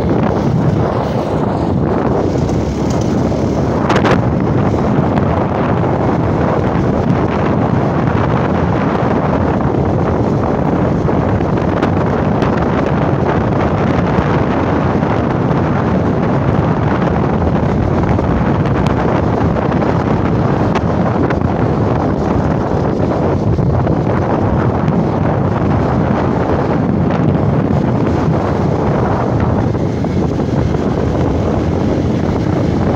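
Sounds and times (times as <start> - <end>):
motorcycle ride: 0.0 - 32.9
wind buffeting microphone: 0.0 - 32.9.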